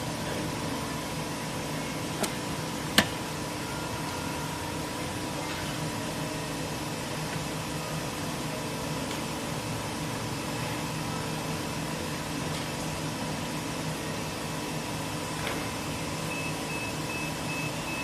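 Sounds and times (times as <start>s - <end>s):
welding machine hum and fan: 0.0s - 18.0s.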